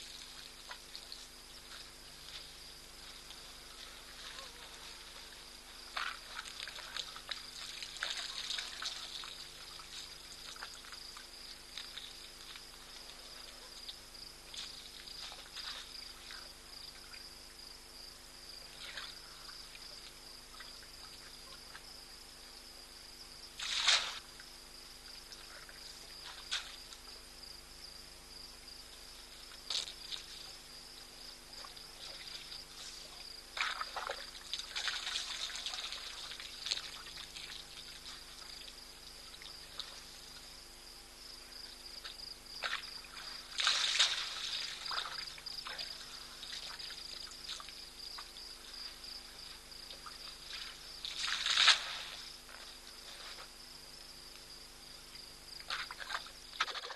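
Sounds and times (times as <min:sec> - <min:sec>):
water splashing and trickling: 0:00.0 - 0:17.5, 0:23.5 - 0:27.3, 0:29.0 - 0:40.7, 0:41.6 - 0:53.6, 0:55.1 - 0:56.9
high-pitched insect chorus: 0:00.0 - 0:56.9.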